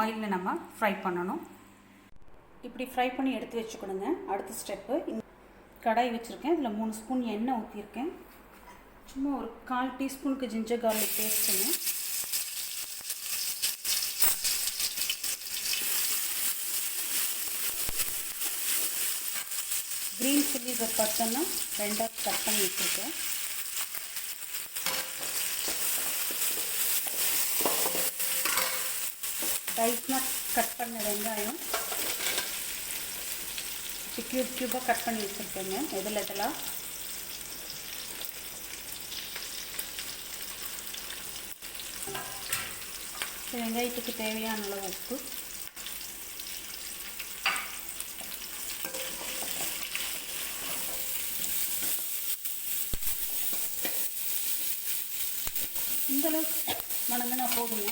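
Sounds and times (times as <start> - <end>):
paste sizzling in hot oil: 10.9 - 57.9.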